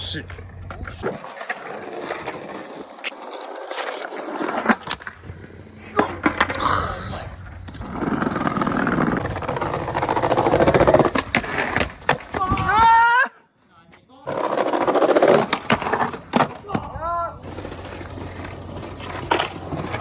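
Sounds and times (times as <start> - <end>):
skateboard clacking on ground: 0.0 - 13.0, 14.3 - 20.0
skateboard wheels rolling: 0.0 - 13.3, 14.2 - 20.0.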